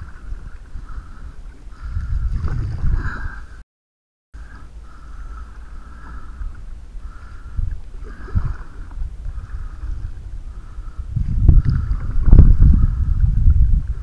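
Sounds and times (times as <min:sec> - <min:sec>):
canoe paddling on calm water: 0:00.0 - 0:03.6, 0:04.4 - 0:14.0
wind rumble on microphone: 0:00.0 - 0:03.6, 0:04.4 - 0:14.0.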